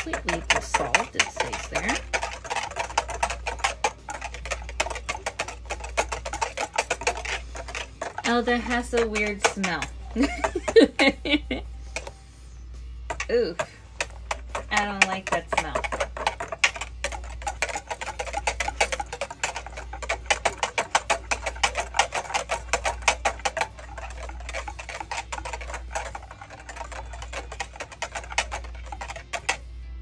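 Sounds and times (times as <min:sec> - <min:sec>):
whisk rattling against bowl: 0:00.0 - 0:12.2, 0:13.0 - 0:29.8.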